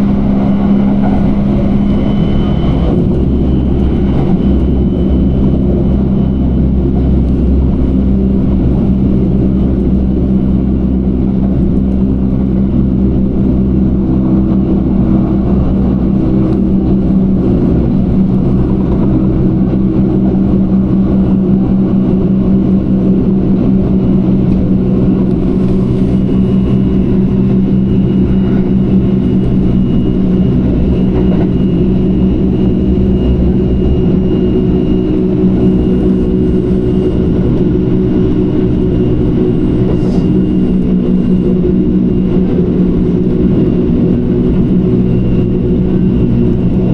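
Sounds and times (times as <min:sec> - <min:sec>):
train rumble and hum: 0:00.0 - 0:46.9.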